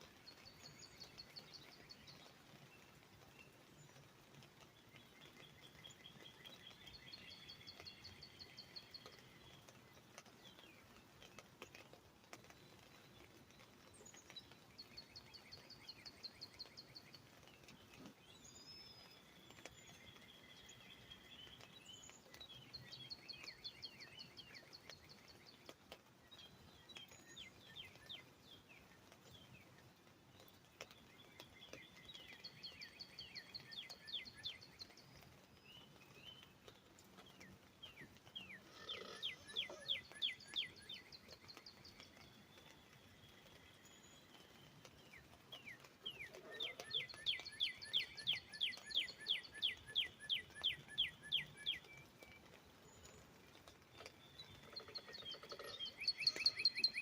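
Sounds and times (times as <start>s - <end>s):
birds singing chirped notes: 0.0s - 57.0s
faint background hiss: 0.0s - 57.0s.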